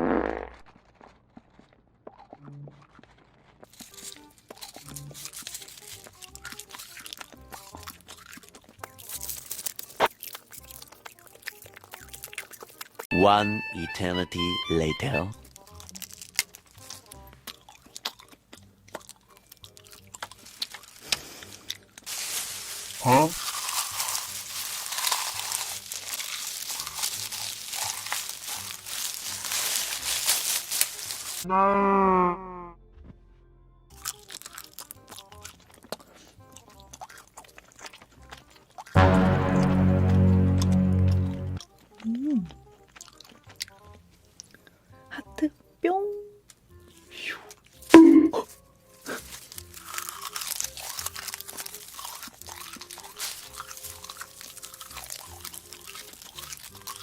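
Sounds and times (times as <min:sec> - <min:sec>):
crunching and chewing food: 0:00.3 - 0:13.1, 0:15.0 - 0:31.5, 0:33.9 - 0:39.3, 0:40.4 - 0:45.7, 0:46.4 - 0:57.0
crinkling and crackling of objects: 0:00.5 - 0:13.1, 0:15.4 - 0:31.5, 0:33.9 - 0:39.0, 0:41.6 - 0:44.7, 0:46.5 - 0:57.0.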